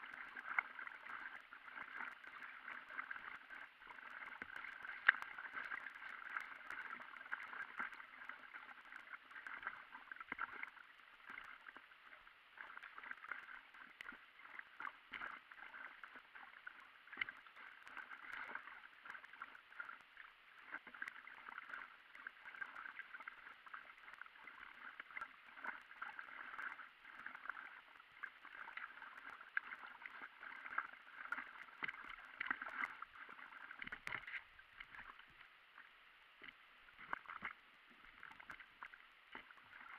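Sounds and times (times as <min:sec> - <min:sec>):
paddle strokes in water: 0:00.0 - 0:39.9
water gurgling and splashing: 0:00.0 - 0:39.9.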